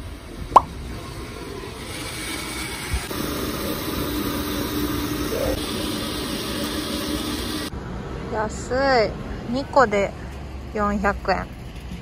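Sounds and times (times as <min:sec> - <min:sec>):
city traffic hum: 0:00.0 - 0:12.0.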